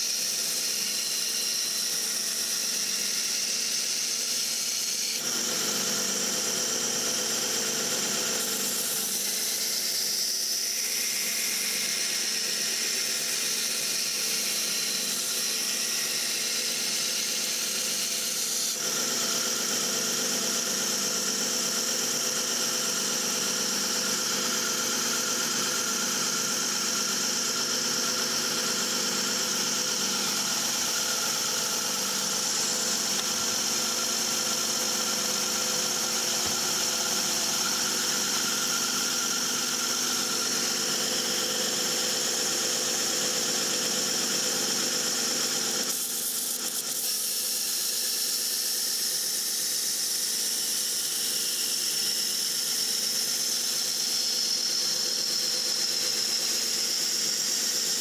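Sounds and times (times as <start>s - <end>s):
belt sharpener motor humming: 0.0s - 21.0s, 22.0s - 58.0s.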